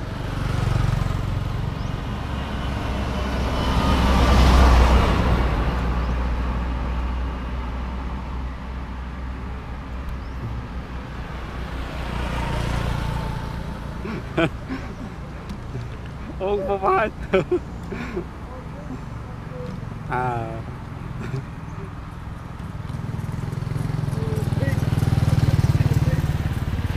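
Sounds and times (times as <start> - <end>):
motorbike passing: 0.0 - 26.9
vehicles passing: 0.0 - 26.9.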